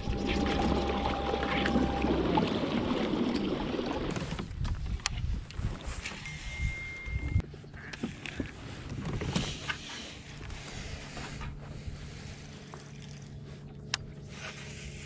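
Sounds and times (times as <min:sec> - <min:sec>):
steady low hum: 0:00.0 - 0:04.1, 0:06.5 - 0:15.0.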